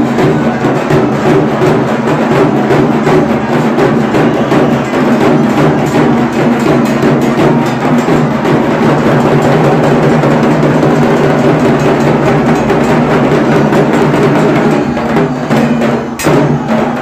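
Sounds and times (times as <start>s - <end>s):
fast clacking drumming: 0.0s - 17.0s.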